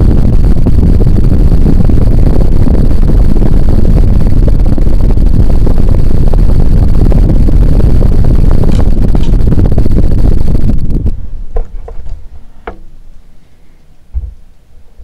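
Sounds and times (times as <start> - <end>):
ceiling fan wind noise: 0.0 - 15.0.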